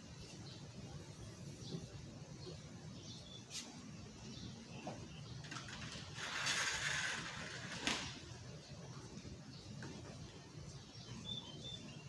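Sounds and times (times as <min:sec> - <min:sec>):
sparrows chirping: 0:00.0 - 0:07.0, 0:08.3 - 0:12.0.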